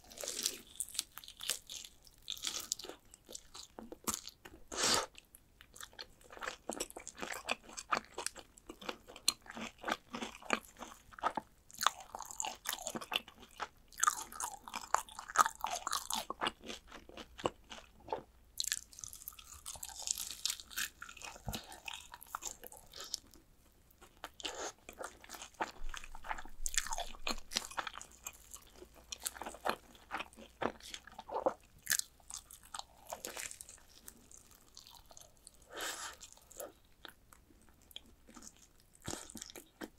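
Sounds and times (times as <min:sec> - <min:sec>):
crunching fried chicken: 0:00.0 - 0:04.6, 0:05.7 - 0:23.4, 0:24.0 - 0:39.9.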